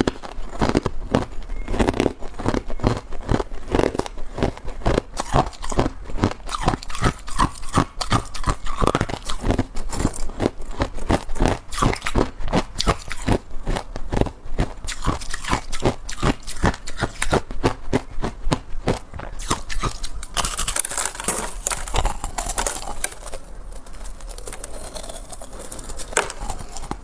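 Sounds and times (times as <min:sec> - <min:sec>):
ice being chewed: 0:00.0 - 0:27.0.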